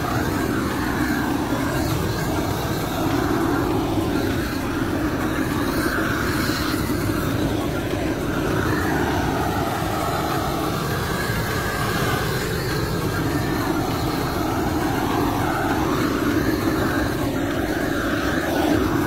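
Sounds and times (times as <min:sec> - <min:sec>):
propane torch burning: 0:00.0 - 0:19.0.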